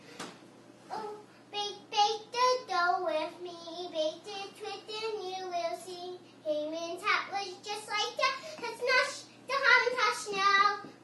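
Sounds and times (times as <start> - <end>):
girl singing: 0.9 - 11.0.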